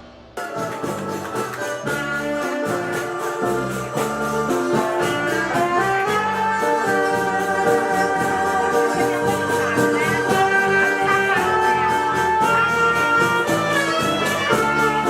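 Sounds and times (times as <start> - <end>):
bolero music: 0.0 - 15.0.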